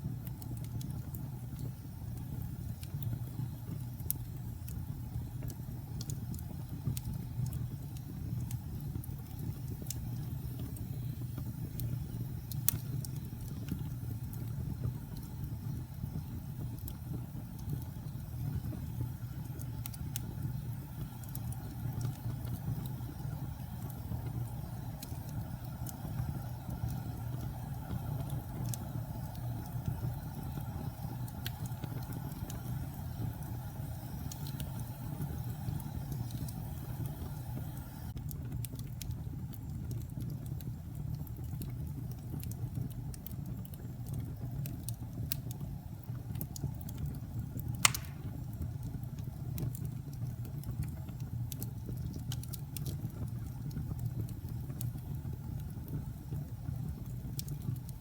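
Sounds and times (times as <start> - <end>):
fire crackling and popping: 0.0 - 58.0
wood fire rumbling: 0.0 - 58.0.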